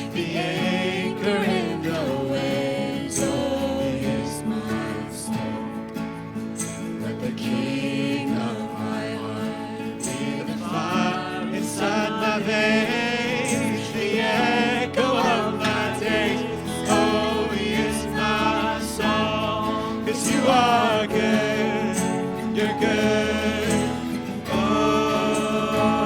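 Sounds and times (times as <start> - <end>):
instrumental accompaniment: 0.0 - 26.0
worship song vocals: 0.0 - 26.0.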